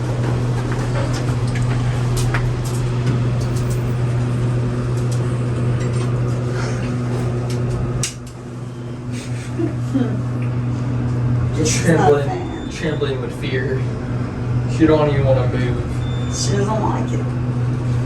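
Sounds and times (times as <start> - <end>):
elevator machinery humming: 0.0 - 18.0.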